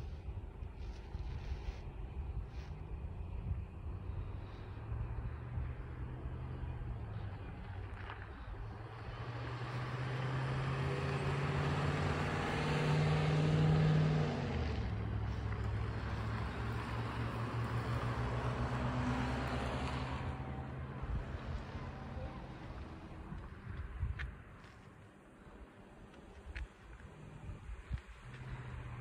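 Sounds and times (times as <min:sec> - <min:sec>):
vehicle engine passing by: 0:02.5 - 0:24.2, 0:26.9 - 0:29.0.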